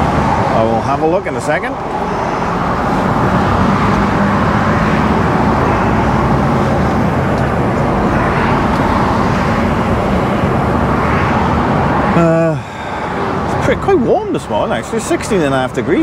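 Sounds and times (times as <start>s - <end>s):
lorry engine drone: 0.0s - 16.0s
road and tyre noise: 0.0s - 16.0s.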